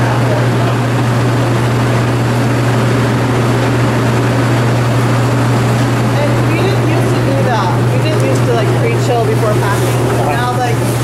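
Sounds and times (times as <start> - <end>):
constant low hum: 0.0 - 11.0
refrigeration fans droning: 0.0 - 11.0.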